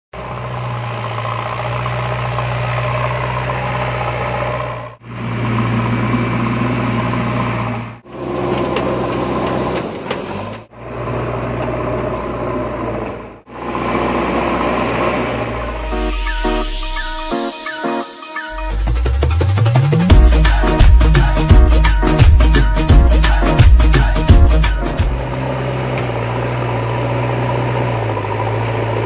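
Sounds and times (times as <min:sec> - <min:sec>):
vehicle engine running: 0:00.1 - 0:17.3, 0:18.5 - 0:29.0.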